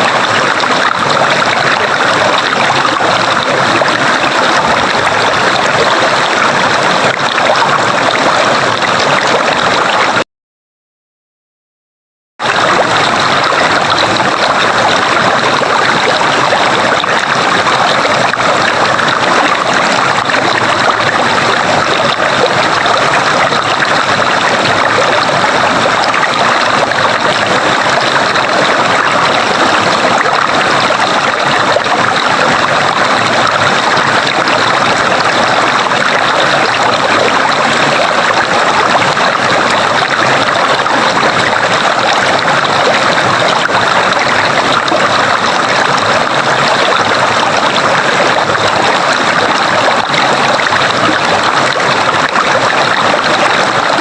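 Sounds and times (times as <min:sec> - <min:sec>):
water flowing in a stream: 0:00.0 - 0:10.2, 0:12.4 - 0:54.0.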